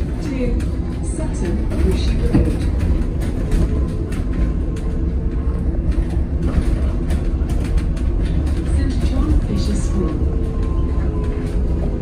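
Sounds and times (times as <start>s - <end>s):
bus road rumble: 0.0s - 12.0s
rattles and knocks from bus body: 0.0s - 12.0s.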